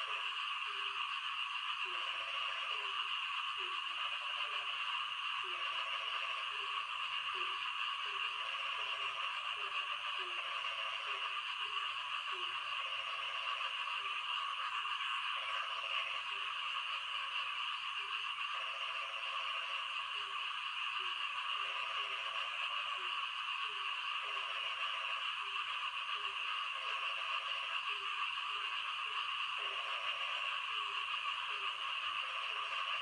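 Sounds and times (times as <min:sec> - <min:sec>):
frogs croaking low: 0:00.0 - 0:33.0.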